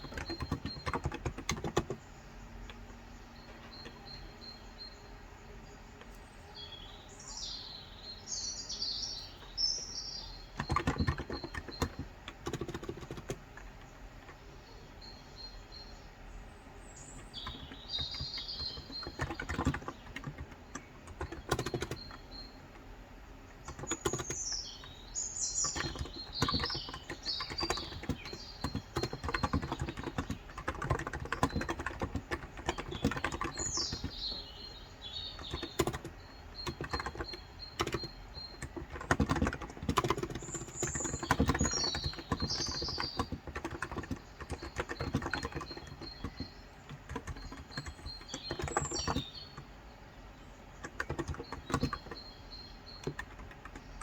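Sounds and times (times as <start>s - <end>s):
keyboard typing: 0.0s - 4.6s, 10.2s - 14.5s, 17.1s - 49.8s, 50.6s - 54.0s
birds chirping: 0.0s - 54.0s.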